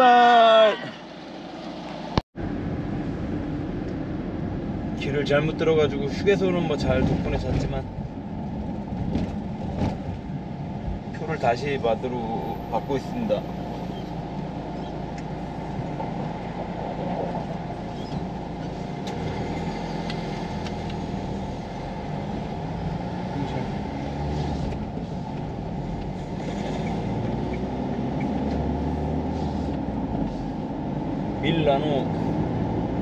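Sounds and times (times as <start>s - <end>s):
road noise: 0.0s - 33.0s
diesel engine accelerating: 1.1s - 33.0s.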